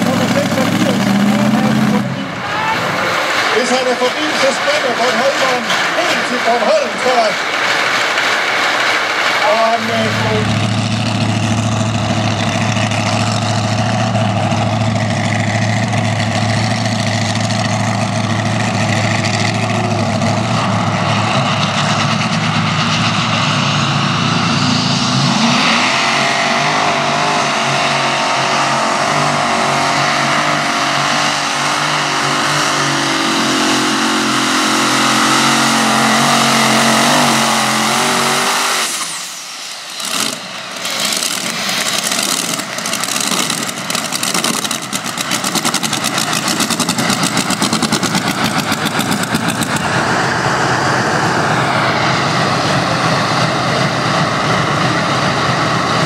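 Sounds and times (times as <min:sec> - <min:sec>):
pulling tractor engine: 0:00.0 - 0:56.0.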